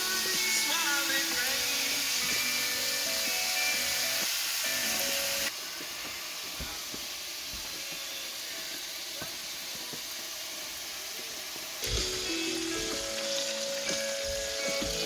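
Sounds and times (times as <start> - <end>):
music: 0.0 - 10.2, 11.7 - 15.0
food sizzling in a frying pan: 0.0 - 15.0.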